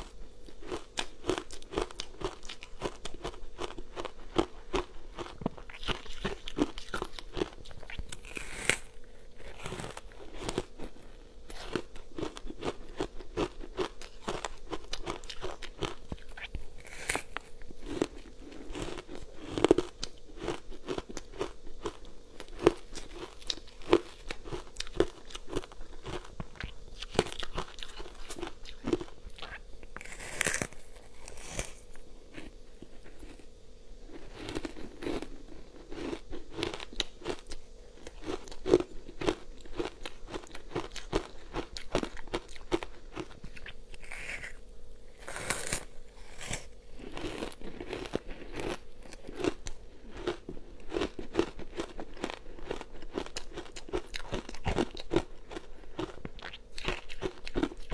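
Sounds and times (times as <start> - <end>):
ice being chewed with crunches: 0.0 - 57.9.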